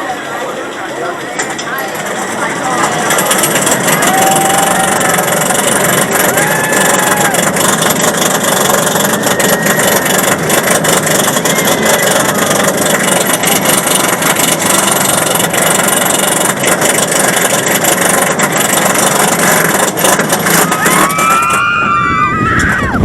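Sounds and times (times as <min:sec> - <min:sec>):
rattling clicks from cars: 0:00.0 - 0:23.0
roller coaster rushing: 0:00.0 - 0:23.0.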